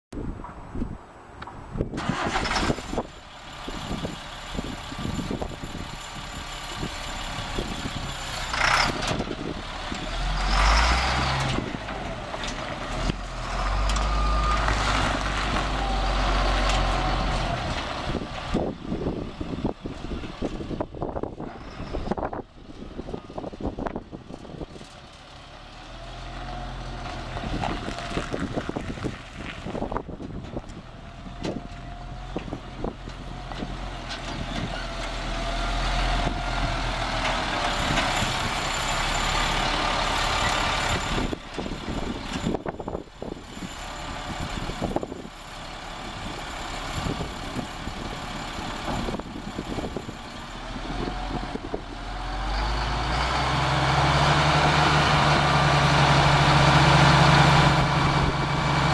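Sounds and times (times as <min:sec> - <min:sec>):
diesel truck engine running: 0:00.8 - 0:58.9.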